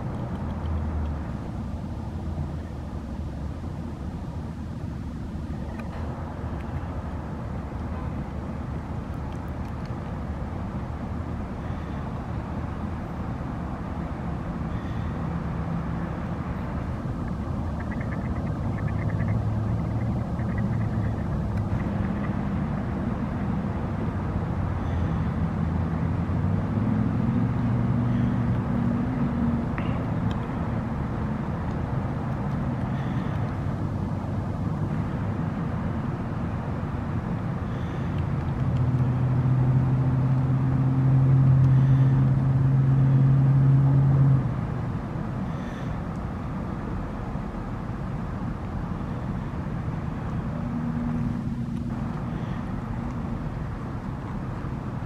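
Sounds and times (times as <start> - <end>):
engine hum: 0.0 - 55.0
road traffic rumble: 0.0 - 55.0.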